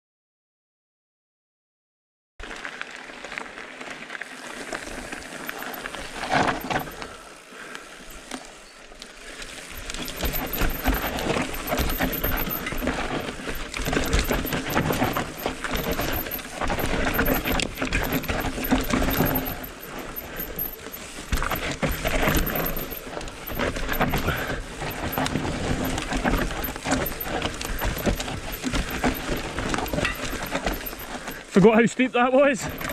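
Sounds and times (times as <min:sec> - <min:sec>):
bike tyres rolling over dirt: 0:02.4 - 0:32.9
bike chain rattling: 0:05.0 - 0:07.3, 0:07.9 - 0:31.8, 0:32.4 - 0:32.9.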